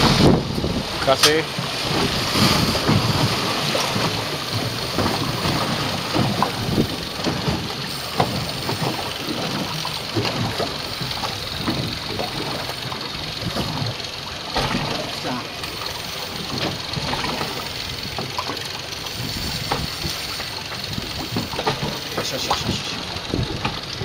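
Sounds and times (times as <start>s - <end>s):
boat engine running: 0.0s - 24.0s
water sloshing against hull: 0.0s - 24.0s.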